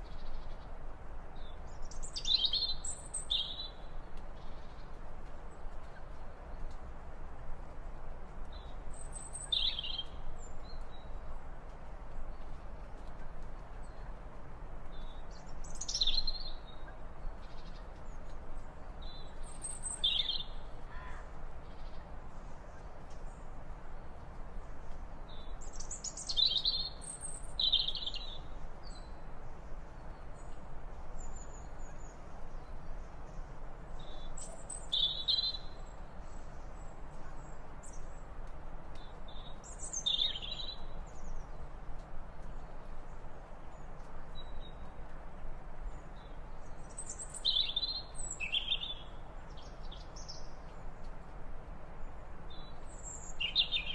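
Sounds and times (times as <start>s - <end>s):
outdoor ambience hiss: 0.0s - 53.9s.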